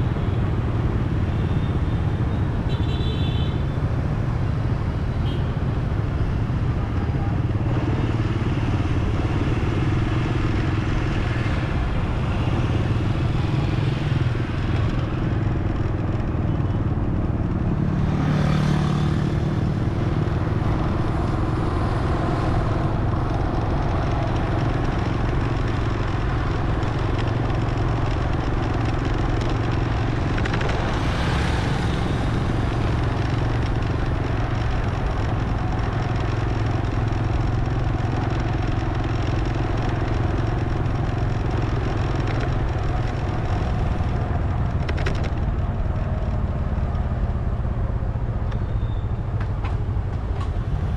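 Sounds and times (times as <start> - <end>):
passing traffic: 0.0 - 50.9
road noise: 0.0 - 50.9
vehicle engine running: 6.8 - 48.1.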